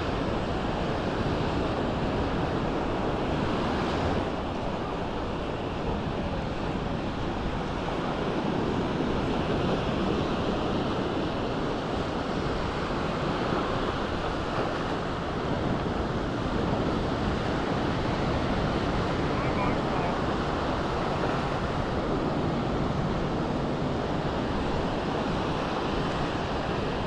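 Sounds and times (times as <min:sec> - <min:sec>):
sea waves washing onto beach: 0:00.0 - 0:27.0
wind on microphone: 0:00.0 - 0:27.0.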